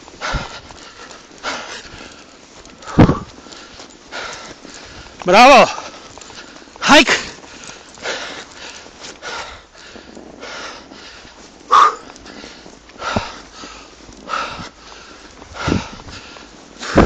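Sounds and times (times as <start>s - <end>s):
person breathing hard: 0.0s - 17.0s.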